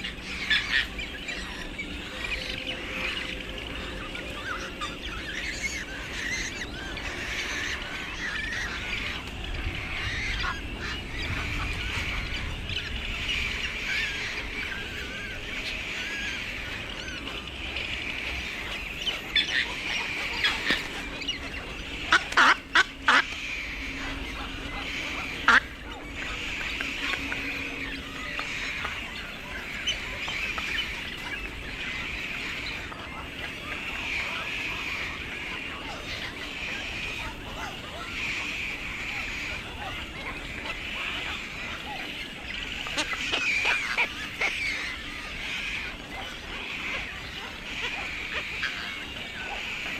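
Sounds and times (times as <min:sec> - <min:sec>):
loud harsh bird squawks: 0:00.0 - 0:49.9
many birds chattering: 0:00.0 - 0:49.9.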